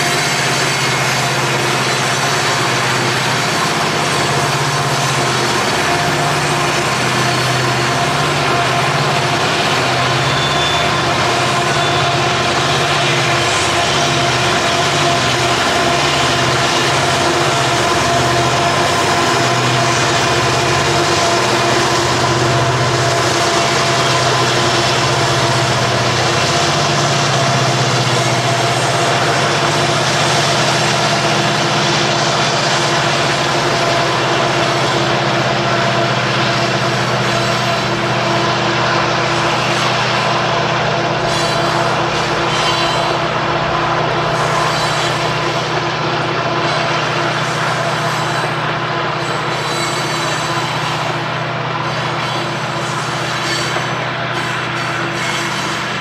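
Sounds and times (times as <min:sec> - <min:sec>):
diesel locomotive engines droning: 0:00.0 - 0:56.0
train rumble: 0:00.0 - 0:56.0.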